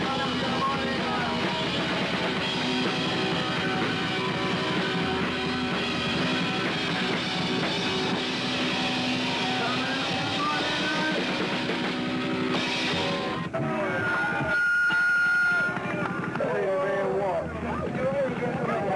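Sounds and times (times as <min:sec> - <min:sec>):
drum kit: 0:00.0 - 0:16.8
distorted electric guitars: 0:00.0 - 0:18.9
punk rock band playing: 0:00.0 - 0:18.9.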